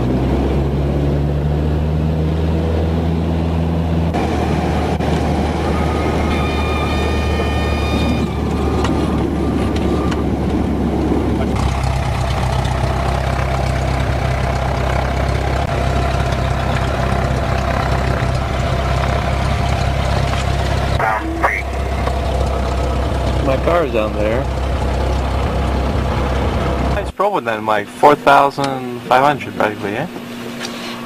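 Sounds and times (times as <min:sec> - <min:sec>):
light aircraft engine drone: 0:00.0 - 0:31.0.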